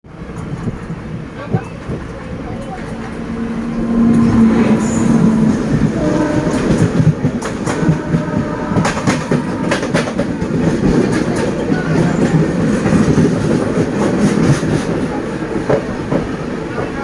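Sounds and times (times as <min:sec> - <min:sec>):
train rumbling: 0:00.0 - 0:17.0
wheels clacking over rail joints: 0:00.2 - 0:16.9.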